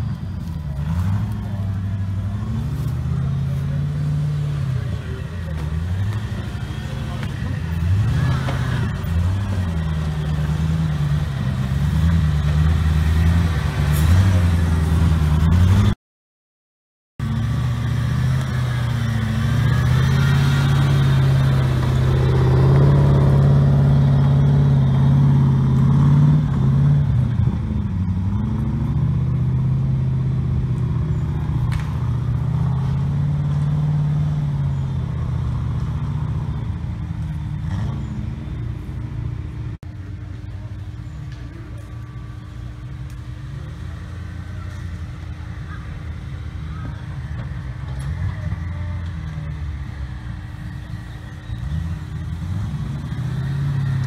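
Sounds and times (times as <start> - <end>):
off-road vehicle engine revving: 0.0 - 16.0, 17.2 - 54.0.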